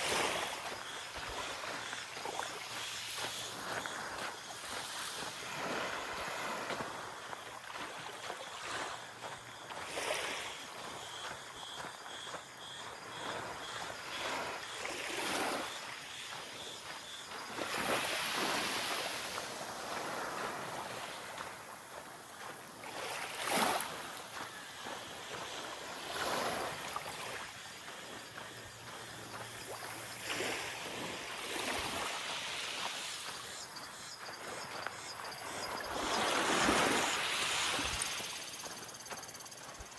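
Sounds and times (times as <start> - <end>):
small waves on sandy beach: 0.0 - 39.9.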